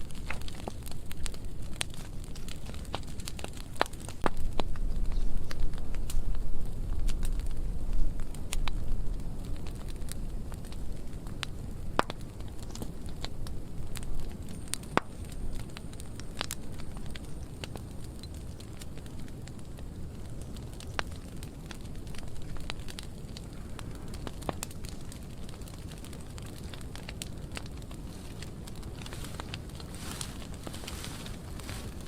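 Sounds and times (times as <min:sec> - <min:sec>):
fire rushing: 0:00.0 - 0:32.0
wood crackling and popping: 0:00.0 - 0:32.0.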